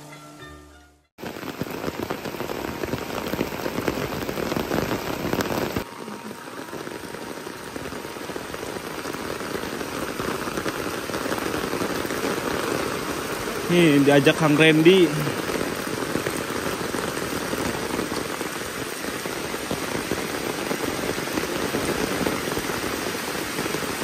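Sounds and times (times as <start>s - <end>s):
heavy rain falling: 1.2s - 24.0s.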